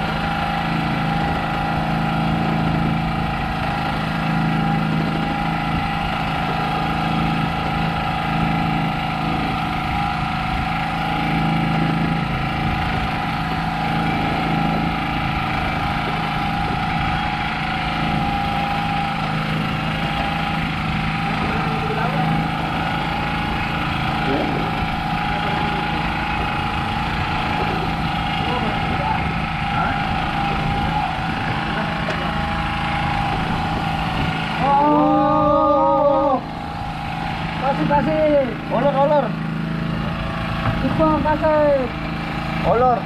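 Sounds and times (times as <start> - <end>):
boat engine idling: 0.0 - 43.0.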